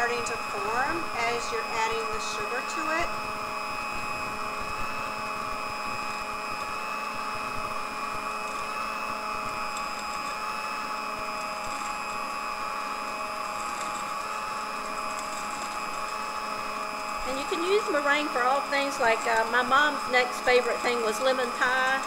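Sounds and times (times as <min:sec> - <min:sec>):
stand mixer motor humming: 0:00.0 - 0:22.0.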